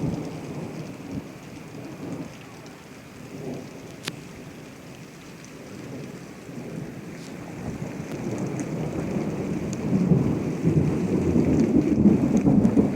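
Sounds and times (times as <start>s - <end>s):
rain falling: 0.0s - 12.9s.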